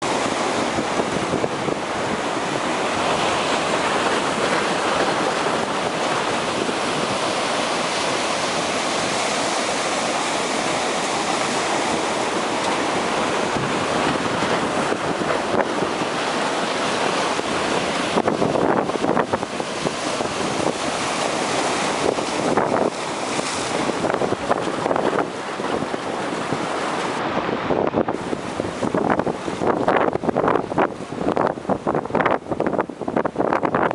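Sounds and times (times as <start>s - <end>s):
ocean surf breaking on beach: 0.0s - 33.9s
wind buffeting microphone: 0.0s - 33.9s.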